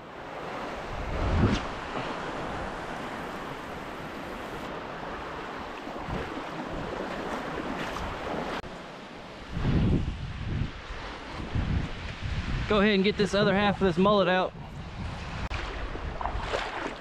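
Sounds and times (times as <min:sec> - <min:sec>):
small waves washing: 0:00.0 - 0:13.0, 0:14.8 - 0:17.0
wind on microphone: 0:00.7 - 0:08.6, 0:09.4 - 0:17.0.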